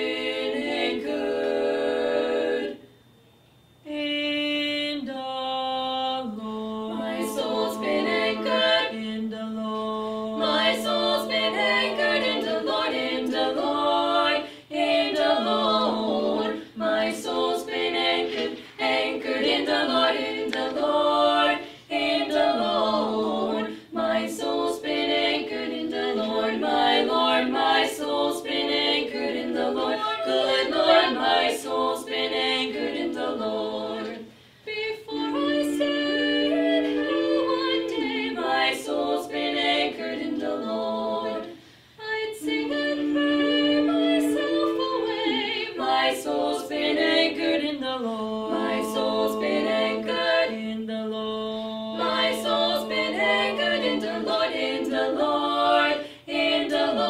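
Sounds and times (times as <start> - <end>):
female vocal quartet singing a cappella: 0.0 - 57.0.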